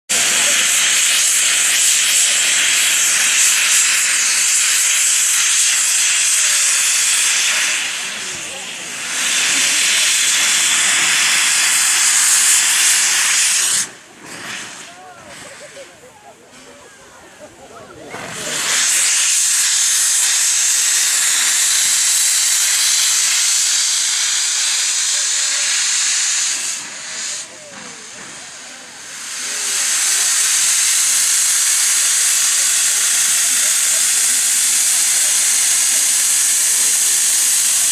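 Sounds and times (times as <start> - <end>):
steam locomotive hissing steam: 0.1 - 37.9.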